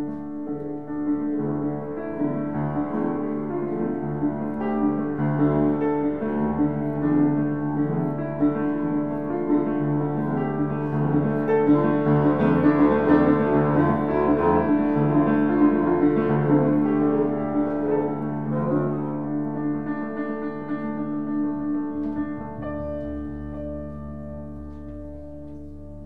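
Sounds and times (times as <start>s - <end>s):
double bass: 0.0s - 26.0s.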